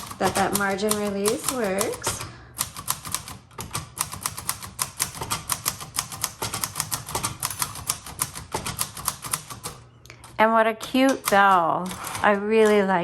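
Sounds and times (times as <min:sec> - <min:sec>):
typewriter keys clacking: 0:00.0 - 0:13.0.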